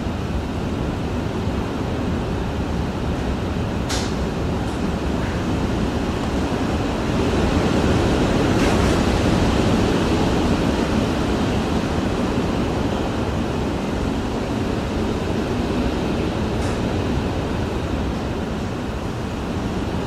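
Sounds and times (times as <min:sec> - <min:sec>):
hurricane wind rushing: 0:00.0 - 0:20.0.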